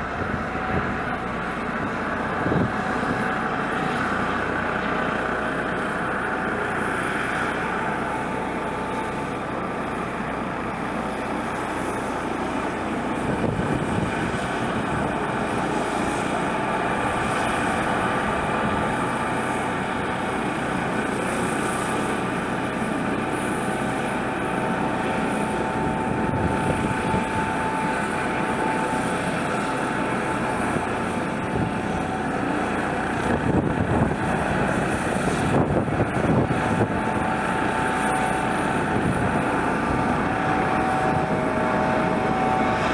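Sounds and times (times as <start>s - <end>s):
helicopter rotor noise: 0.0s - 42.9s
helicopter turbine engine whine: 0.0s - 42.9s.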